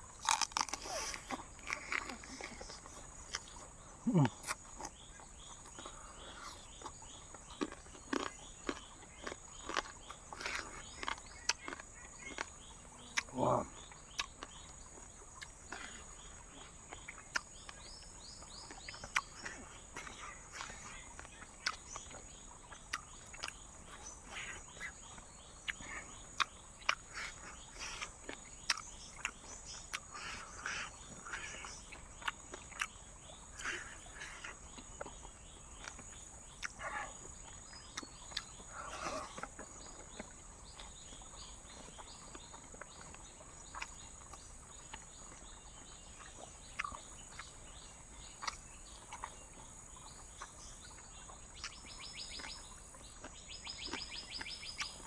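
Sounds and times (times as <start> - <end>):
night insects droning: 0.0 - 55.0.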